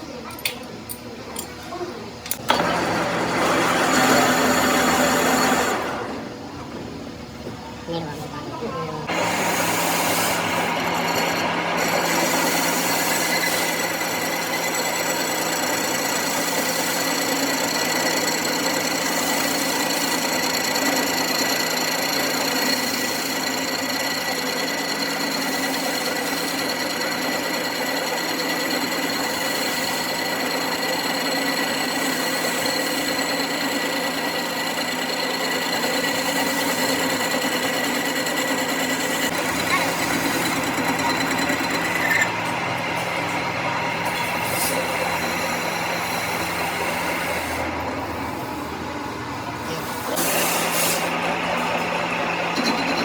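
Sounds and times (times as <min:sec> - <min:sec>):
machine tool whining: 0:02.1 - 0:53.0.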